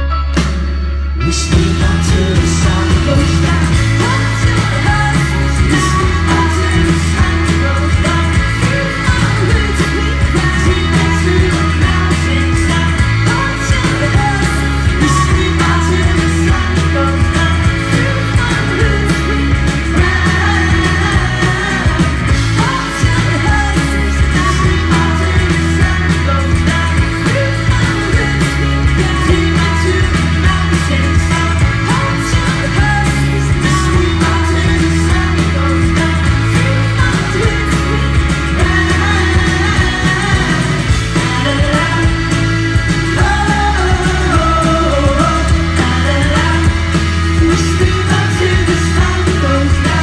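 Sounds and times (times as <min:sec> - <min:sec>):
electric guitar: 0:00.0 - 0:50.0
keyboards: 0:00.0 - 0:50.0
person singing: 0:00.0 - 0:50.0
drums with steady beat: 0:00.2 - 0:50.0
strummed acoustic guitars: 0:01.1 - 0:50.0.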